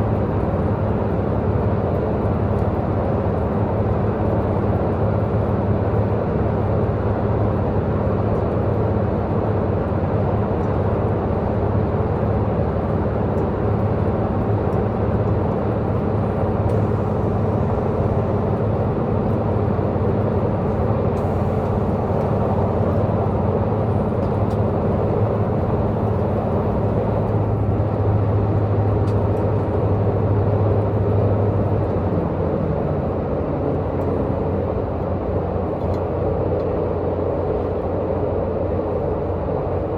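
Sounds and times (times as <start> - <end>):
diesel engine drone: 0.0 - 39.9
train wheels rumbling on rails: 0.0 - 39.9.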